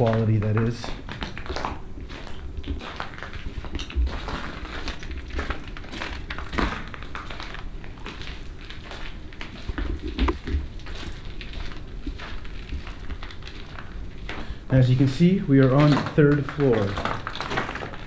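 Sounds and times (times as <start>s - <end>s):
footsteps crunching over debris: 0.0s - 18.0s.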